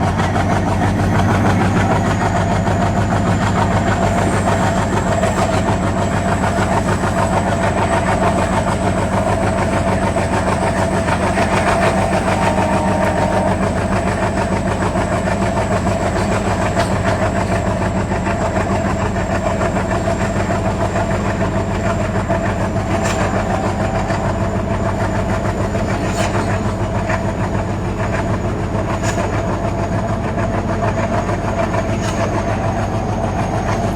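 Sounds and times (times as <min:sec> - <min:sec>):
diesel locomotive engine droning: 0:00.0 - 0:33.9.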